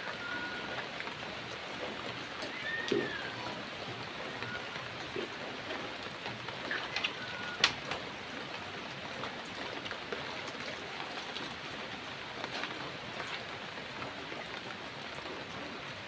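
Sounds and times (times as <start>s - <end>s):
heavy rain falling: 0.0s - 16.0s
raindrops tapping: 0.1s - 15.4s.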